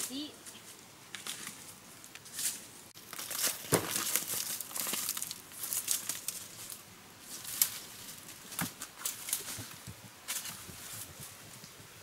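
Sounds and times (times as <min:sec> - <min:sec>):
dry plant material rustling: 0:00.0 - 0:11.8.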